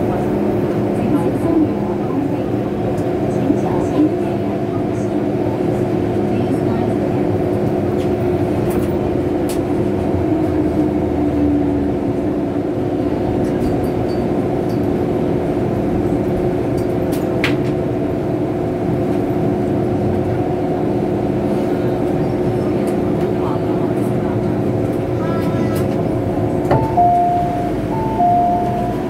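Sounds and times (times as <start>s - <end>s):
constant hum: 0.0s - 29.0s
train car rumble: 0.0s - 29.0s.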